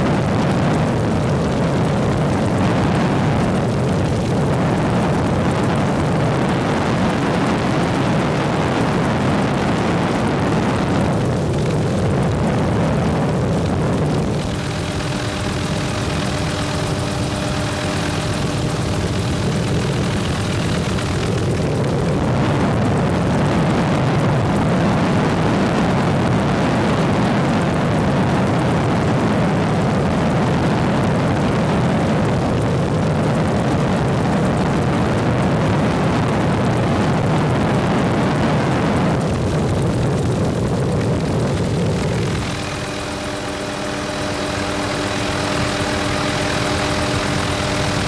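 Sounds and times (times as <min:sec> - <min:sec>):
helicopter rotor and engine drone: 0:00.0 - 0:48.0.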